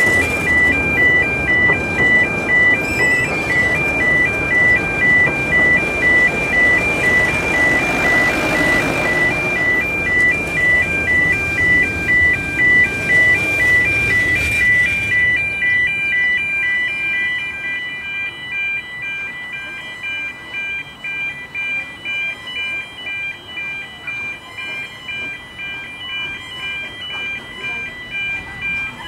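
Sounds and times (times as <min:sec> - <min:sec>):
level crossing alarm warbling: 0:00.0 - 0:29.0
railway carriages rumbling past: 0:00.0 - 0:29.0.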